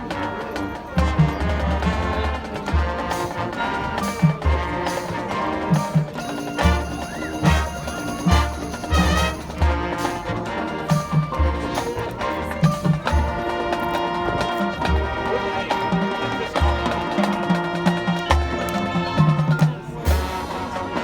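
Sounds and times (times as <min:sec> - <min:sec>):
marching band playing: 0:00.0 - 0:21.0.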